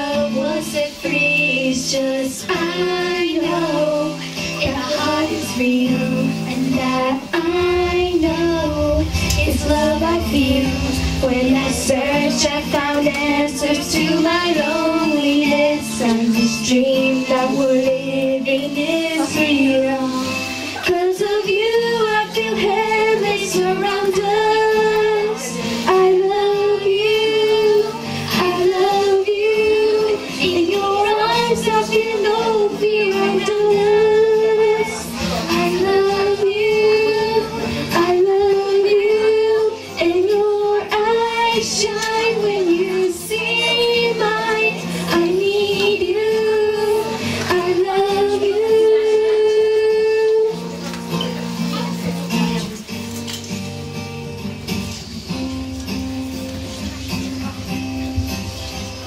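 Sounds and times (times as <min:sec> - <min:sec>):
girl singing into microphone: 0:00.0 - 0:53.6
musical accompaniment: 0:00.0 - 0:59.0.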